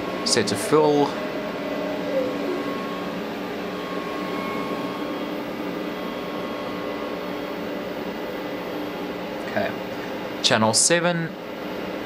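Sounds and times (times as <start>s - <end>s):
motor whine: 0.0s - 10.4s
cooling fan whir: 0.0s - 12.0s.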